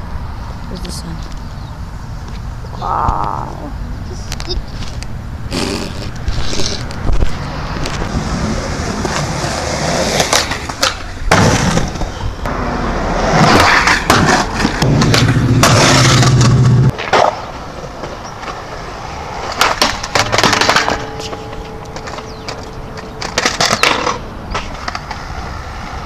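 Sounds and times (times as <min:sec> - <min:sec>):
skateboard wheels rolling on concrete: 0:00.0 - 0:26.0
skateboard clacking on ground: 0:04.3 - 0:26.0.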